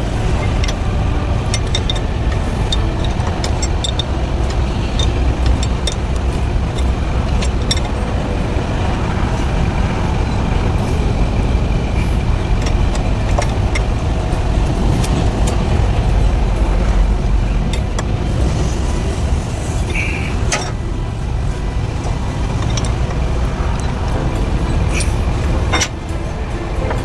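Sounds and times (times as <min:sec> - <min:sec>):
engine rumbling: 0:00.0 - 0:27.0.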